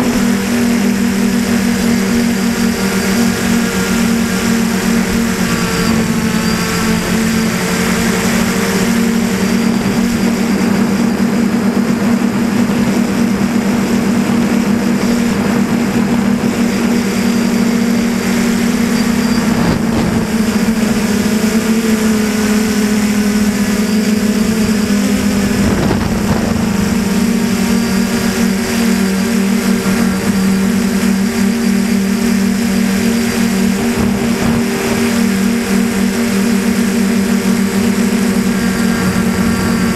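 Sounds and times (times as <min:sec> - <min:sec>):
drone propellers buzzing: 0:00.0 - 0:39.9
rushes of noise: 0:00.0 - 0:39.9.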